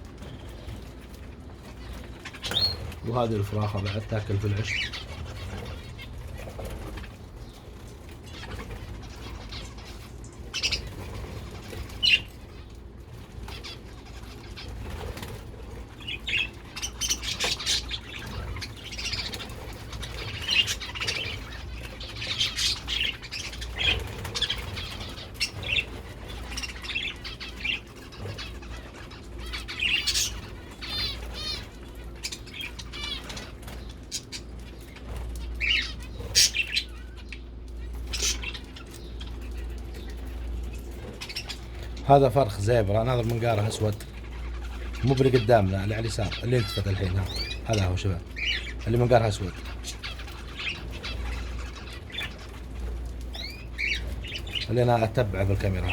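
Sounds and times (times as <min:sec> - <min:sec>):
small birds chirping: 0:00.0 - 0:55.9
wing flutters: 0:00.0 - 0:55.9.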